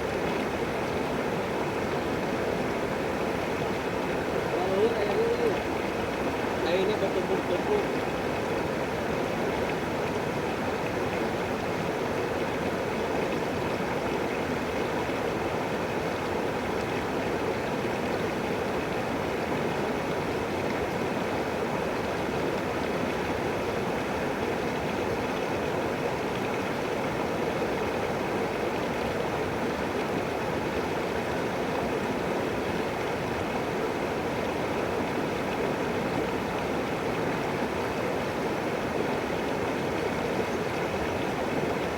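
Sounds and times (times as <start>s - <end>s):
river flowing: 0.0s - 41.9s.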